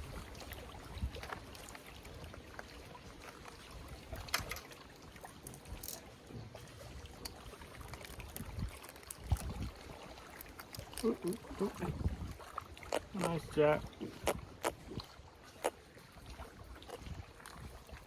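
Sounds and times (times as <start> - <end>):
water lapping against kayak hull: 0.0 - 18.0.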